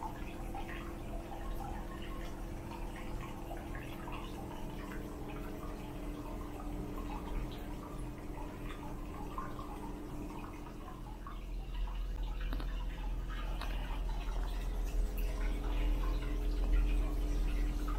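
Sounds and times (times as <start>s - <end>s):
steady low hum: 0.0s - 17.9s
water trickling and dripping: 0.0s - 17.9s.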